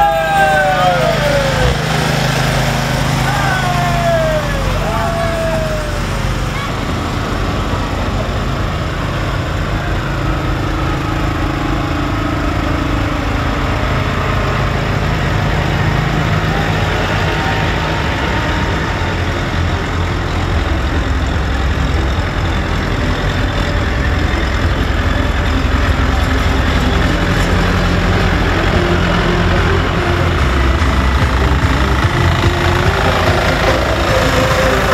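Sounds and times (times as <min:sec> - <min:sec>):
tractor engines running slowly: 0:00.0 - 0:34.9.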